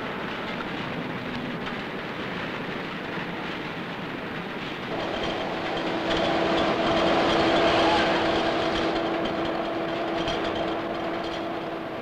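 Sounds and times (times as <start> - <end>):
cableway machinery rumble: 0.0 - 12.0.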